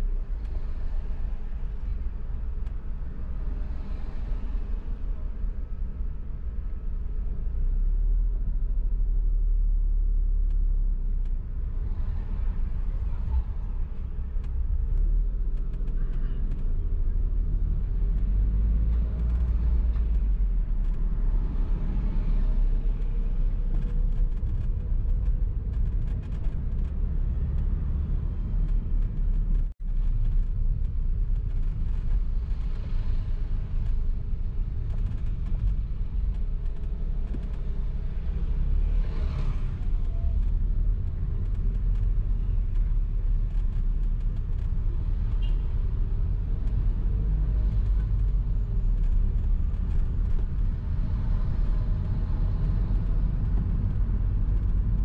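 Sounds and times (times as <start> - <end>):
car driving in traffic: 0.0 - 55.0.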